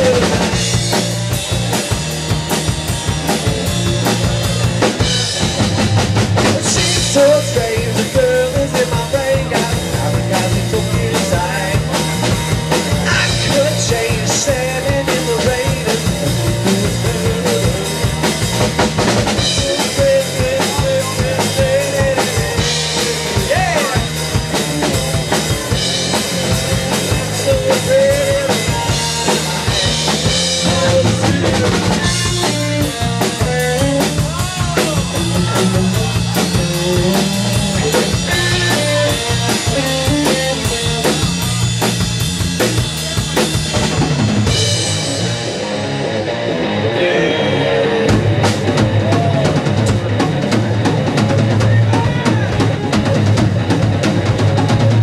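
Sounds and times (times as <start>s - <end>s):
drum kit: 0.0s - 55.0s
electric bass: 0.0s - 55.0s
electric guitar: 0.0s - 55.0s.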